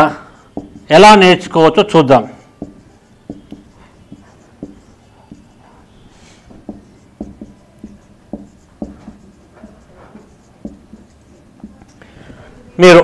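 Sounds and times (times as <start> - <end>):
marker writing on whiteboard: 0.0 - 13.0.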